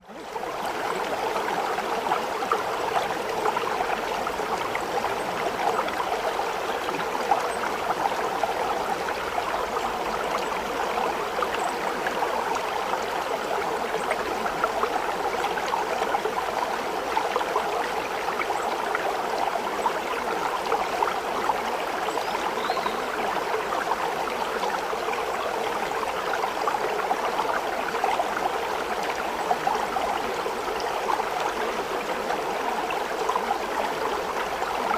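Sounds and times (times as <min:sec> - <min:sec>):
running water in a stream: 0:00.0 - 0:34.9.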